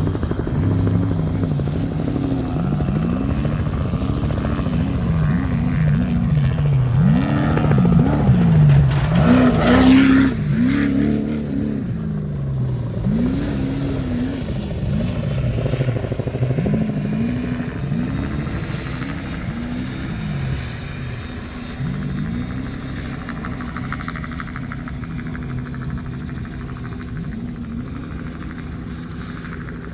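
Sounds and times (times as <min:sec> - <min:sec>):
race truck engine revving: 0:00.0 - 0:29.9.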